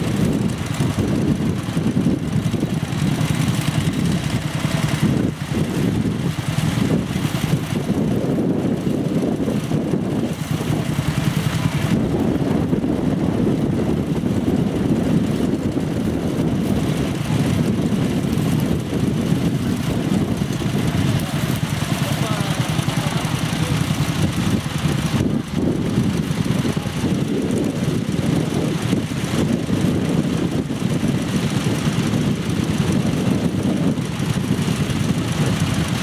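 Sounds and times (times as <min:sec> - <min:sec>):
walking tractor engine running: 0:00.0 - 0:36.0.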